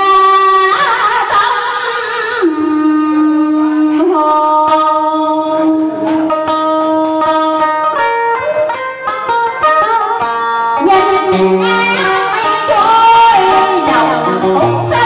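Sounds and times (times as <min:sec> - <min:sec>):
guitar melody with sliding notes: 0:00.0 - 0:15.0.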